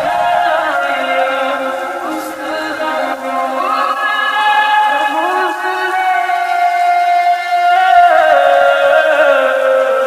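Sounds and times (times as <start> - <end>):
pitched-up wordless vocal: 0.0 - 10.0.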